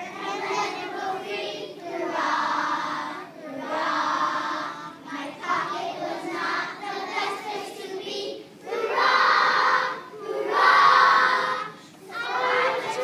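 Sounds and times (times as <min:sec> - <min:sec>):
children singing together: 0:00.0 - 0:13.0.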